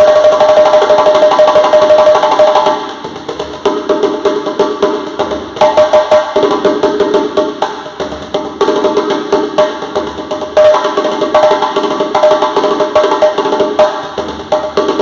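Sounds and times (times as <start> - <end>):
drum with sharp clicking strokes: 0.0 - 15.0.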